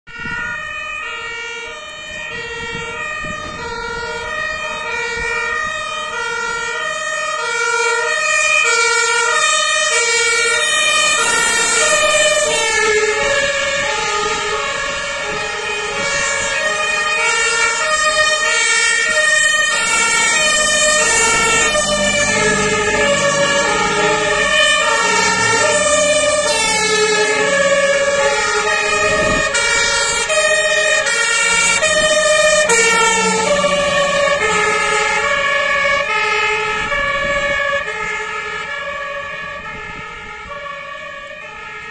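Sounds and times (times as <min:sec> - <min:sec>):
two-tone fire engine sirens: 0:00.0 - 0:41.9
heavy truck engine rumble: 0:00.1 - 0:08.0, 0:08.6 - 0:41.8.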